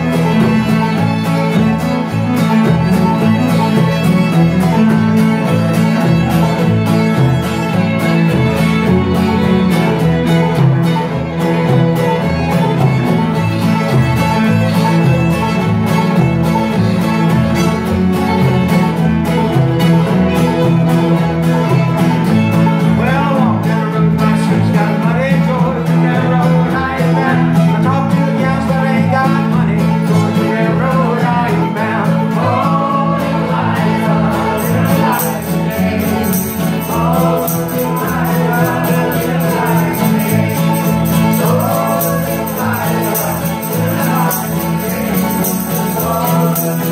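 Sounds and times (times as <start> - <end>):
acoustic guitar: 0.0 - 46.9
banjo: 0.0 - 46.9
fiddle: 0.0 - 46.9
mandolin: 0.0 - 46.9
upright bass: 0.0 - 46.9.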